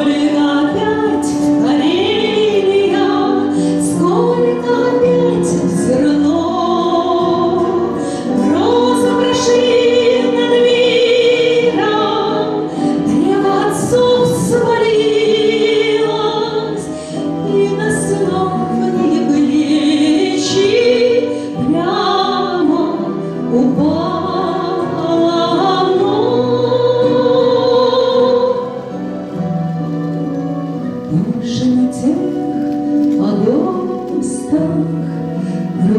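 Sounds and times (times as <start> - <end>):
woman singing: 0.0 - 29.0, 30.8 - 35.9
musical accompaniment: 0.0 - 35.9.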